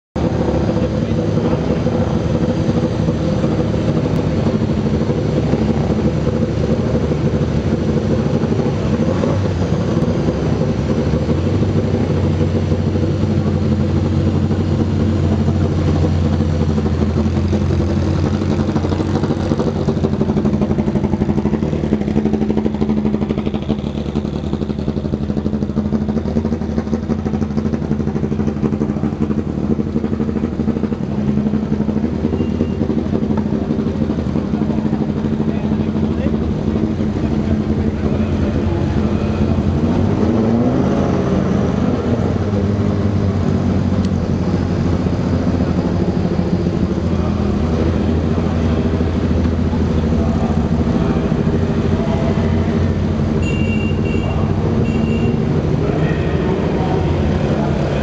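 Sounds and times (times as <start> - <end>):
car engines idling and pulling away: 0.1 - 58.0.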